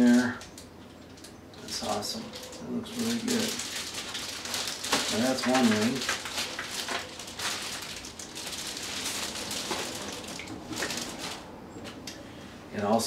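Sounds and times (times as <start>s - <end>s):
plastic wrapping crinkling: 0.0s - 11.5s.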